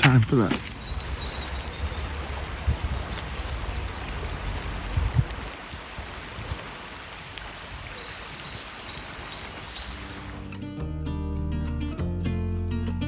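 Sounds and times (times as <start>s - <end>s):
steady rain falling: 0.0s - 10.6s.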